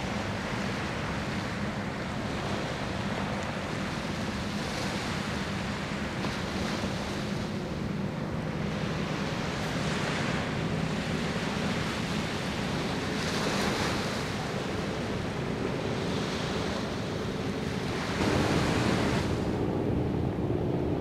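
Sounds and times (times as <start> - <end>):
waves washing ashore: 0.0 - 21.0
wind buffeting microphone: 0.0 - 21.0.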